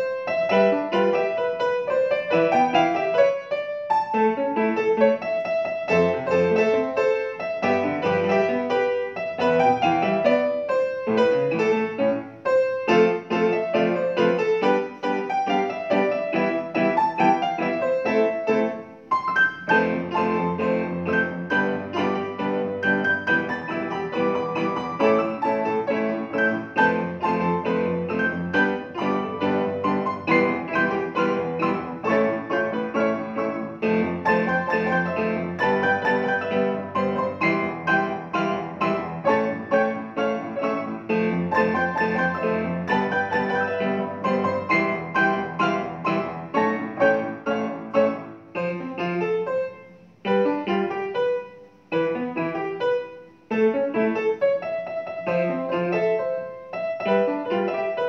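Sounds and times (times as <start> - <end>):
piano duet: 0.0 - 58.0.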